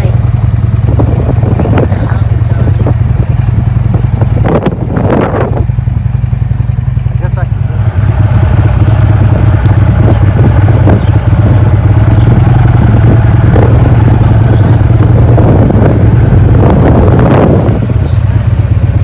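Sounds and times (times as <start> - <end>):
vehicle engine low drone: 0.0 - 19.0.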